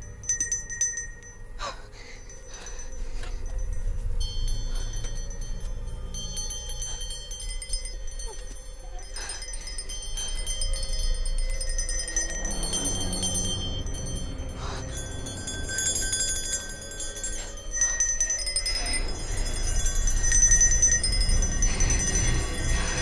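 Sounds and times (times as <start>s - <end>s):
low rumble: 0.0s - 23.0s
small metal bell ringing: 0.0s - 23.0s.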